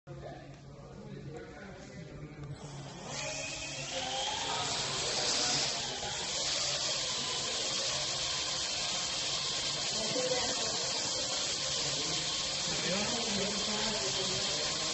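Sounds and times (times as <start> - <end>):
drone rotors whirring: 2.6 - 14.9.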